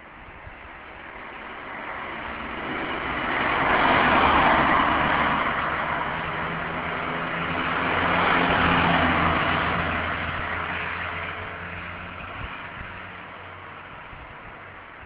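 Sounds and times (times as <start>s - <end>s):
car passing by: 0.8s - 15.0s.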